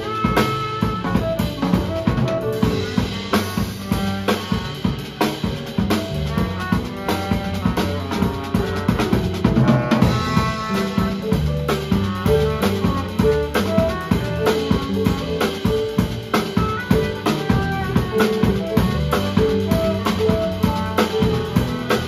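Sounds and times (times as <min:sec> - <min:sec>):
double bass line: 0:00.0 - 0:22.0
jazz drum kit: 0:00.0 - 0:22.0.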